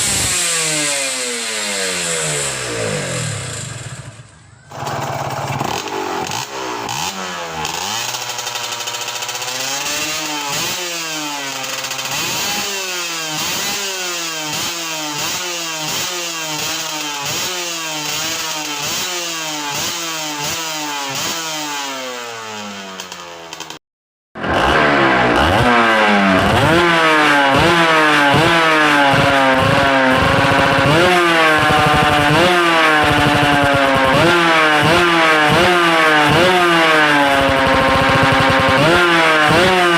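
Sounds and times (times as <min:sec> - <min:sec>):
two-stroke engine revving: 0:00.0 - 0:23.8, 0:24.4 - 0:39.9.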